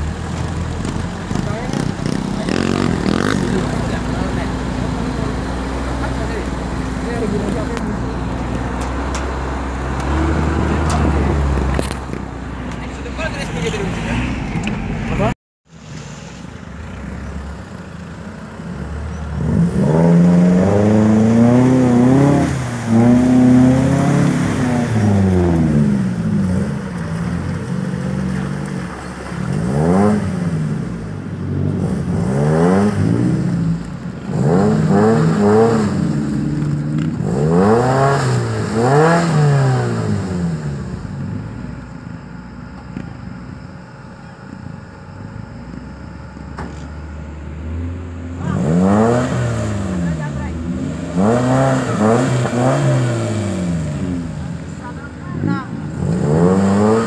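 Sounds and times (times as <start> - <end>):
off-road vehicle engine revving: 0.0 - 15.4, 16.6 - 57.0.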